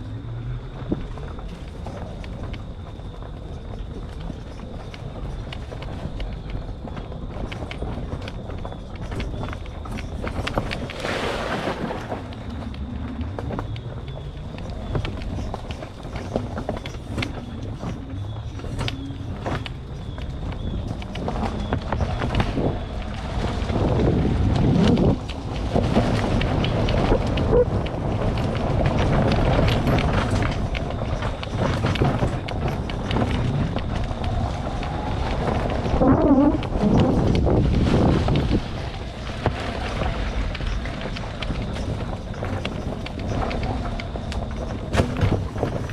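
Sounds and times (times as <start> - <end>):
tyres crunching over forest floor: 6.6 - 36.0, 36.6 - 45.9.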